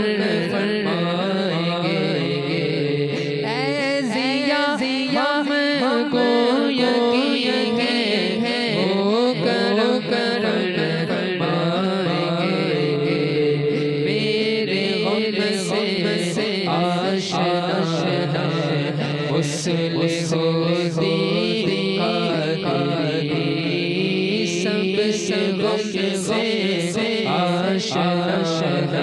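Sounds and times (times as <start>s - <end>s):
person singing devotional melody: 0.0s - 29.0s.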